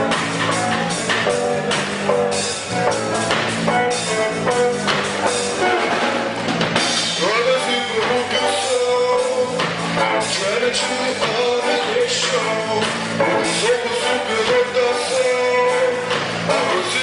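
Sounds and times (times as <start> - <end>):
drums steady beat: 0.0 - 17.0
rock band playing: 0.0 - 17.0.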